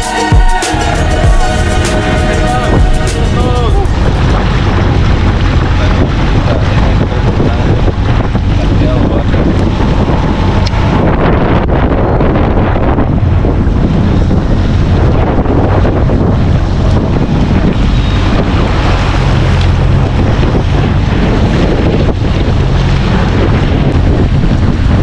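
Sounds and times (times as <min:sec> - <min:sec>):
boat engine drone: 0:00.0 - 0:25.0
water rushing along hull: 0:00.0 - 0:25.0
wind buffeting microphone: 0:00.0 - 0:25.0.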